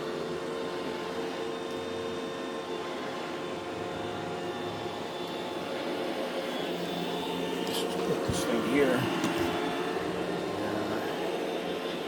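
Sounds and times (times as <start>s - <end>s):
robot vacuum motor hum: 0.0s - 12.0s.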